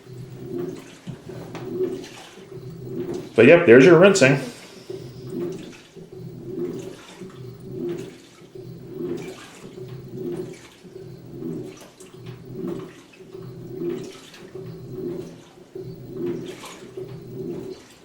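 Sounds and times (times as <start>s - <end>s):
washing machine agitating: 0.0s - 18.0s.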